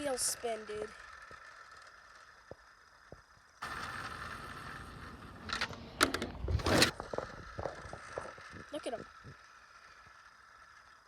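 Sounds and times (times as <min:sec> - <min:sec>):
toy car handling noises: 0:00.0 - 0:11.0.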